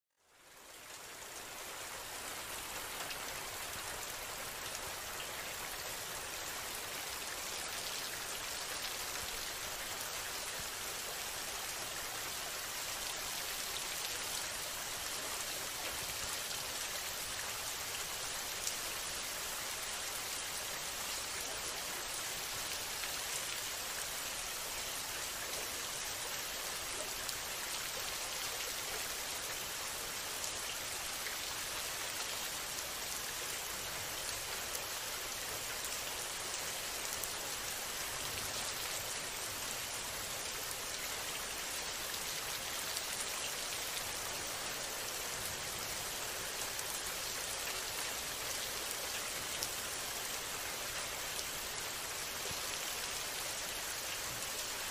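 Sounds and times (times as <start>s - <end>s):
steady rain: 0.1s - 54.9s.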